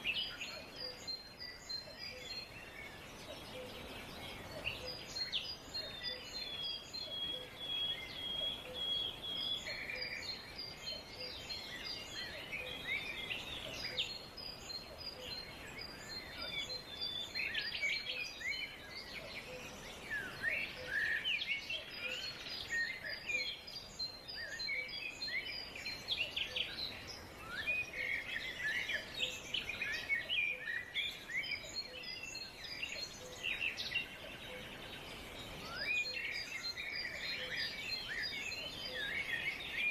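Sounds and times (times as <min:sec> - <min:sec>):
forest birds chirping and whistling: 0:00.0 - 0:39.9.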